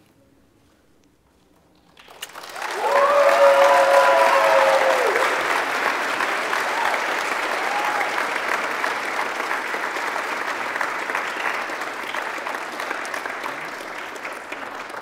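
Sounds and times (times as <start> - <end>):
crowd applauding: 2.0 - 15.0.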